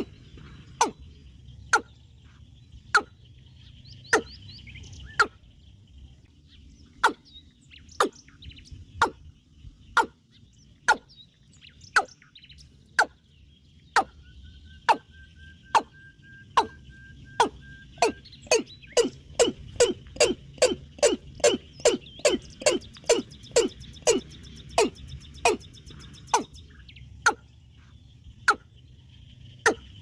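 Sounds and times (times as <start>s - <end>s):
high insect hum: 0.0s - 30.0s
soft bird chirps: 0.0s - 30.0s.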